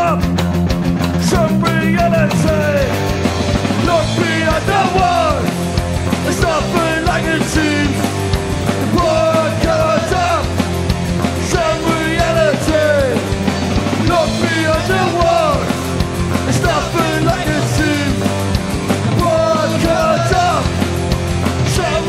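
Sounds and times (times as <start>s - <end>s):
driving drums: 0.0s - 22.0s
punk band song with vocals: 0.0s - 22.0s.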